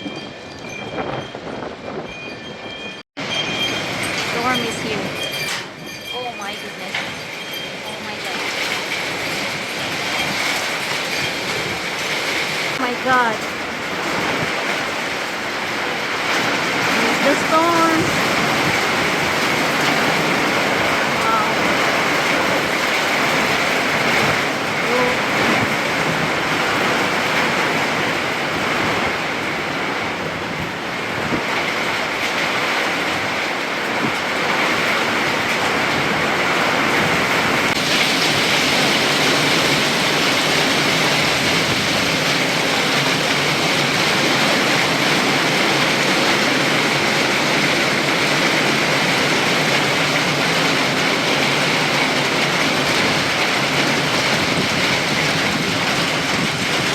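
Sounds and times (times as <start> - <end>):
strong wind: 0.0 - 56.9
heavy rain pouring: 3.2 - 56.9.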